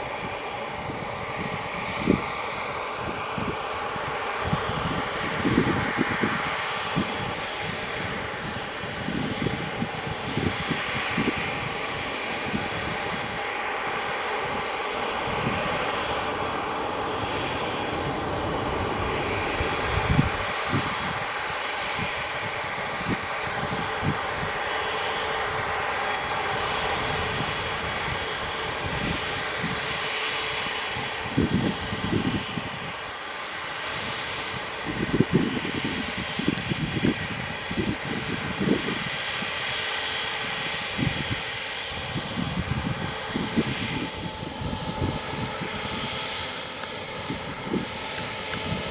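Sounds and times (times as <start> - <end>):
jet engines whining: 0.0 - 48.9
wind rumbling on microphone: 0.0 - 48.9.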